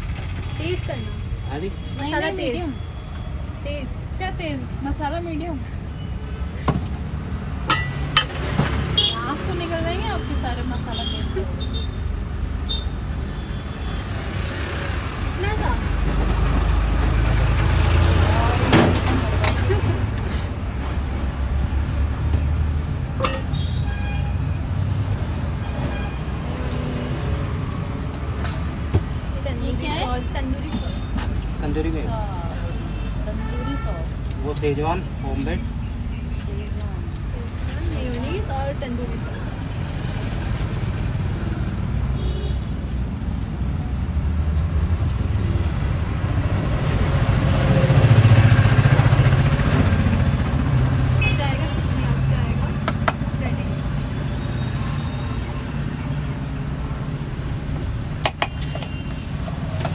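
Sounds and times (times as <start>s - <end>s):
low rumble of road traffic: 0.0s - 59.9s.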